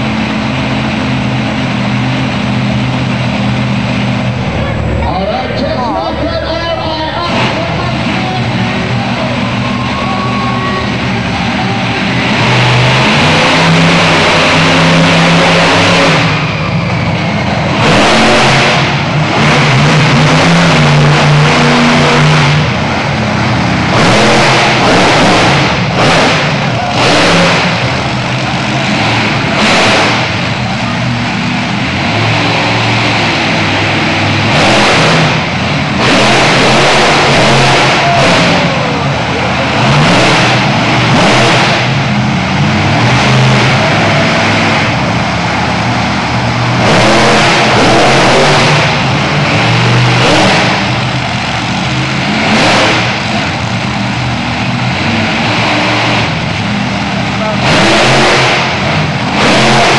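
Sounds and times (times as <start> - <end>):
truck engine revving hard: 0.0 - 59.9.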